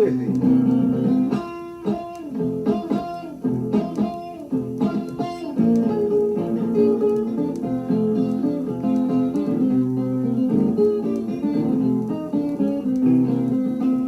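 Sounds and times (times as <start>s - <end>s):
blues guitar playing: 0.0s - 14.0s.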